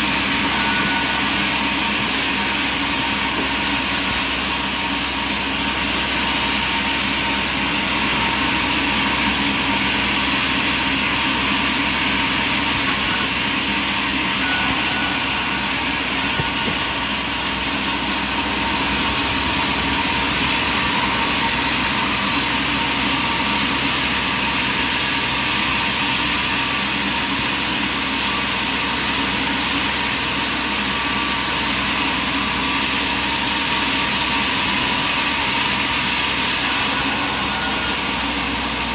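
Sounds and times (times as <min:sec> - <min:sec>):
sawmill machine noise: 0:00.0 - 0:38.9.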